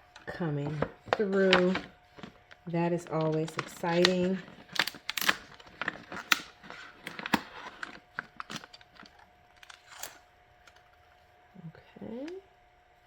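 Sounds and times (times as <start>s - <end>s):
transfer paper crinkling: 0.1s - 10.9s.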